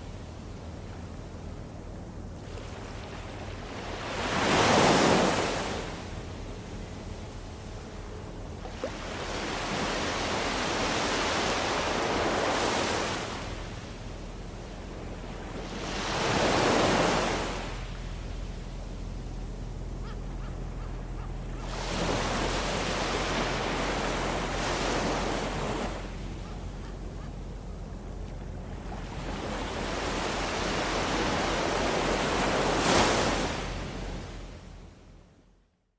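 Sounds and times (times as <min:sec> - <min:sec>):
small waves breaking on beach: 0:02.4 - 0:07.9, 0:08.6 - 0:20.0, 0:20.6 - 0:34.7.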